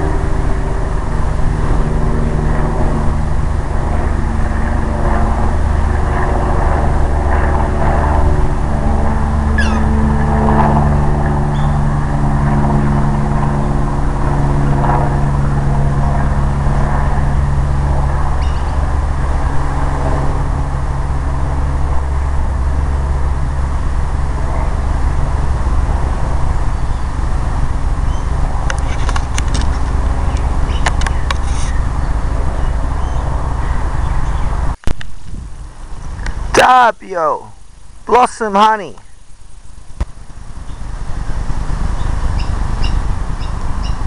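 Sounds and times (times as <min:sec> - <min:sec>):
loud low motor drone: 0:00.0 - 0:44.0.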